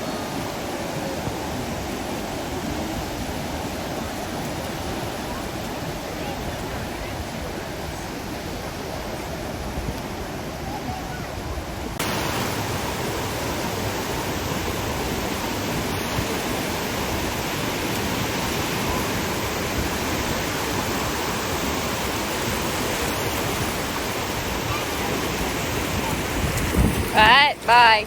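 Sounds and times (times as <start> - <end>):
ocean surf rushing: 0.0 - 28.0.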